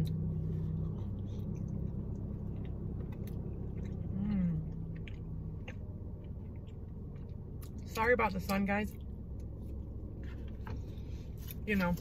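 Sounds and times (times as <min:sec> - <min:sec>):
chewing rice cakes: 0:00.0 - 0:09.8
low car cabin hum: 0:00.0 - 0:12.0.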